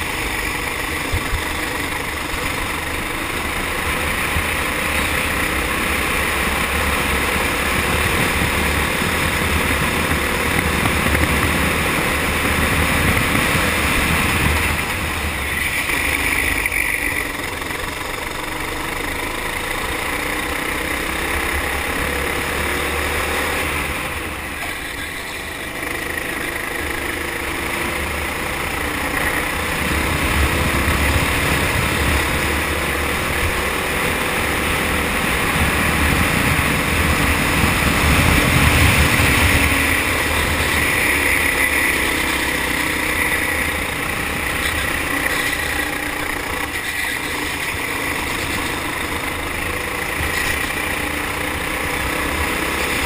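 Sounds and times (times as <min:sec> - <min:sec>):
kart engine running: 0:00.0 - 0:53.0.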